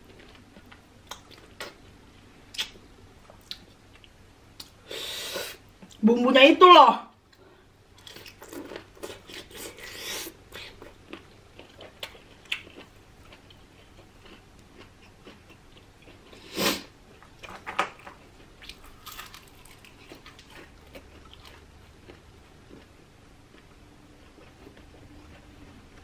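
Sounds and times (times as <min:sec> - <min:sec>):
person chewing food: 0:00.0 - 0:05.2, 0:07.3 - 0:26.0.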